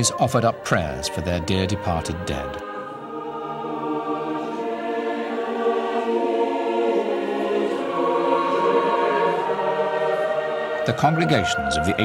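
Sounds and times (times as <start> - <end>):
choir singing long chords: 0.0 - 12.0.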